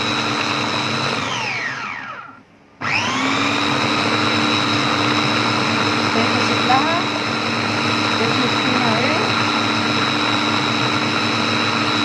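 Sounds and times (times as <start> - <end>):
food processor motor whine: 0.0 - 12.0.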